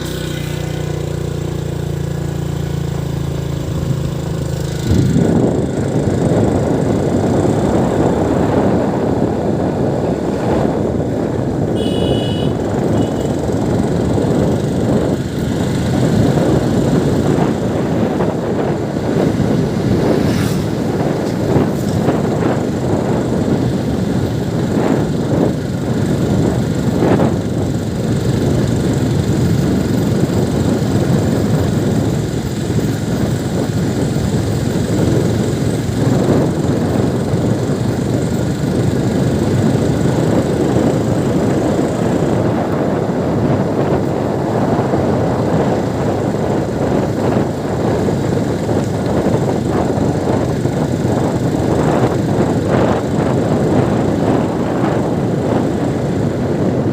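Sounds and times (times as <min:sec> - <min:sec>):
moving vehicle rumble: 0:00.0 - 0:56.9.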